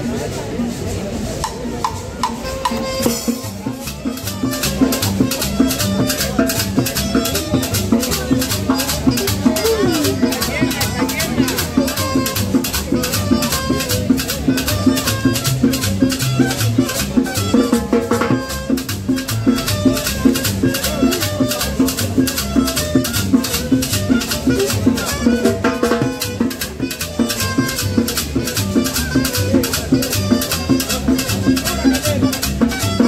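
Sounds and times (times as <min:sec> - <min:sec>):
conga and timbal drums: 0:00.0 - 0:33.0.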